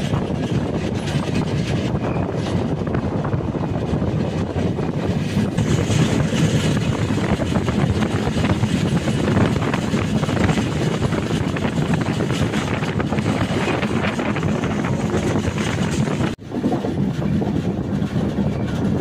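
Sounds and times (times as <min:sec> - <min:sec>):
rushing wind: 0:00.0 - 0:19.0
train coach rumble: 0:00.0 - 0:19.0.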